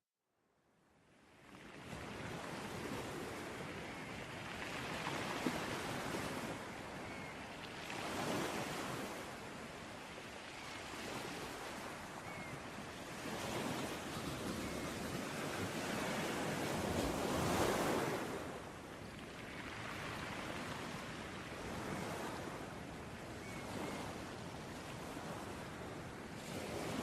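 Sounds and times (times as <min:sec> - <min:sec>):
waves breaking on a beach: 0:01.0 - 0:27.0.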